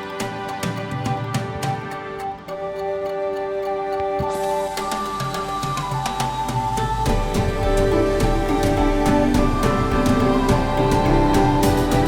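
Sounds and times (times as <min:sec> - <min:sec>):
soft ticking beat: 0:00.2 - 0:12.0.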